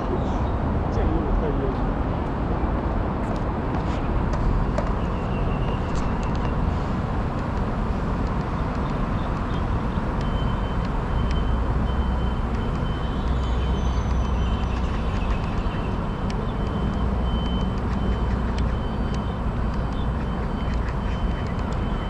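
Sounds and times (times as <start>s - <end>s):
outdoor background rumble: 0.0s - 22.0s.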